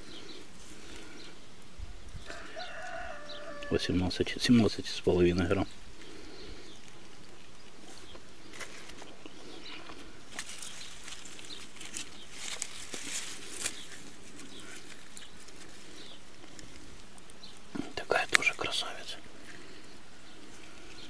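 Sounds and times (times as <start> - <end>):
outdoor background: 0.0 - 21.0
plants rustling by hand: 0.0 - 21.0.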